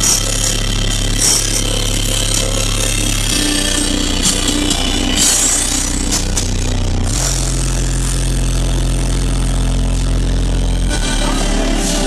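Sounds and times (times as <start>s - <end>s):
subwoofer playing loud bass: 0.0s - 12.0s.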